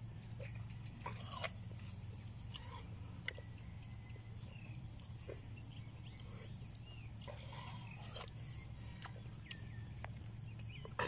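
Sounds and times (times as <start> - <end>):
steady low hum: 0.0 - 11.0
wet crunching and slurping: 0.3 - 11.0.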